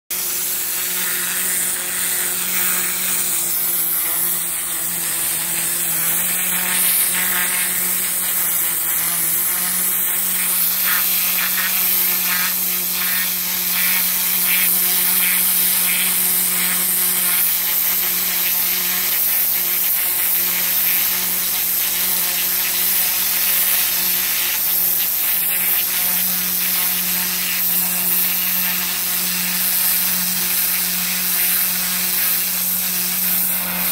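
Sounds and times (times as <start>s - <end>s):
pressure washer spray hissing: 0.1s - 33.9s.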